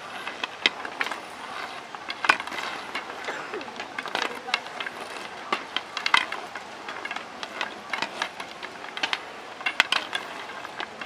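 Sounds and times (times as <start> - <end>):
wooden sticks knocking on stone: 0.1 - 11.0.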